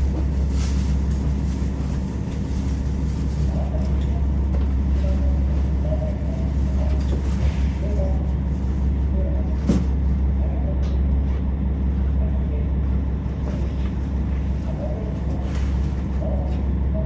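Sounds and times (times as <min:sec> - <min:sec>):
diesel railcar engine idling: 0:00.0 - 0:17.0.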